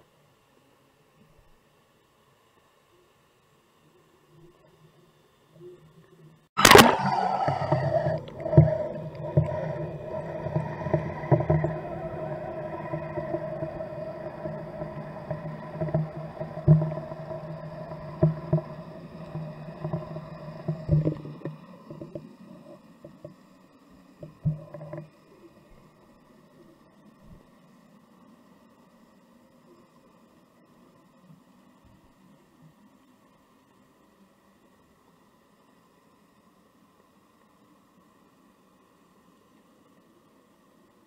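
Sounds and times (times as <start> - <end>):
underwater boat engine hum: 0.0 - 41.0.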